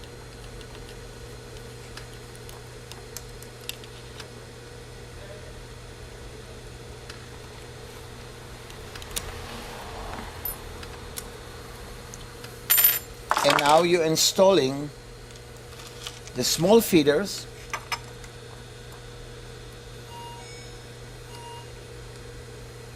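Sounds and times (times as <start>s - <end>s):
steady electric hum: 0.0s - 22.9s.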